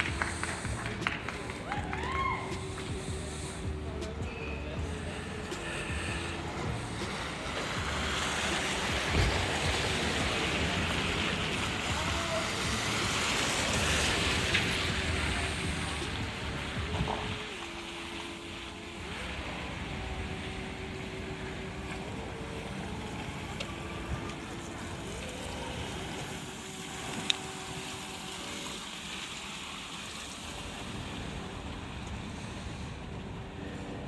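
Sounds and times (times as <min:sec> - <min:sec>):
distant vehicle engines: 0:00.0 - 0:34.0
wind: 0:00.0 - 0:34.0.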